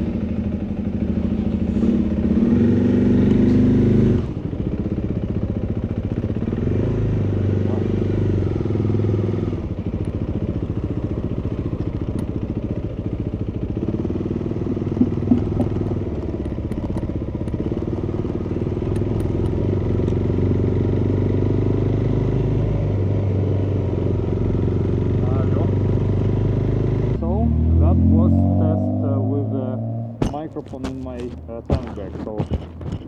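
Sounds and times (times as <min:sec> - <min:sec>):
muffled motorcycle engine: 0:00.0 - 0:33.0.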